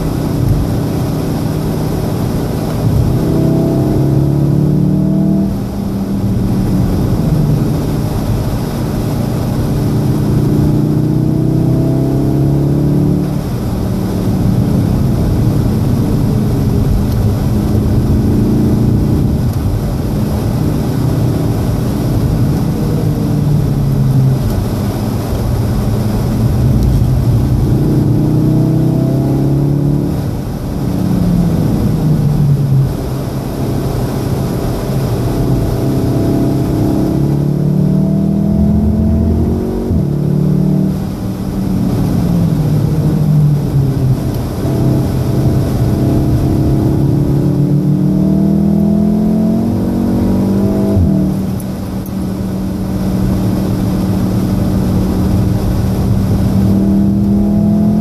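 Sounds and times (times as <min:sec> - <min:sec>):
car engine revving: 0:00.0 - 0:58.0
road noise: 0:00.0 - 0:58.0.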